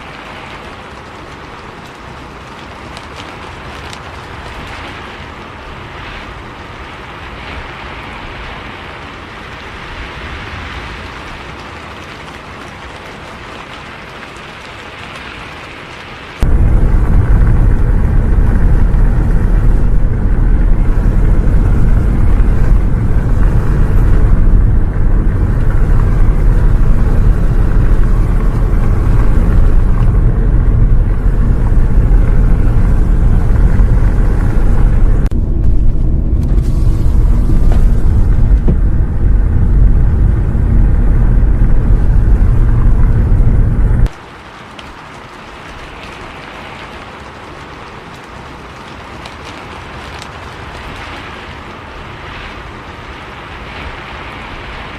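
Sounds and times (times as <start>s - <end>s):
bus rumbling in rain: 0.0s - 54.9s.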